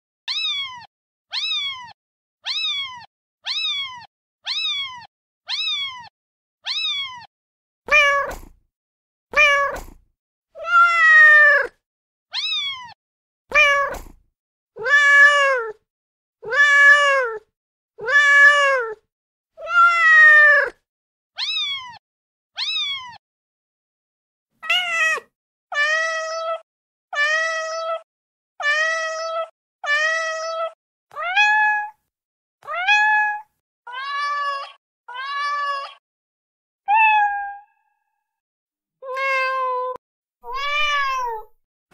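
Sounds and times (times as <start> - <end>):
recorded cat meows: 0.3 - 7.3, 7.9 - 8.6, 9.3 - 10.0, 10.6 - 14.2, 14.8 - 15.8, 16.4 - 19.0, 19.6 - 20.8, 21.4 - 22.0, 22.6 - 23.2, 24.6 - 36.0, 36.8 - 38.4, 39.0 - 41.6.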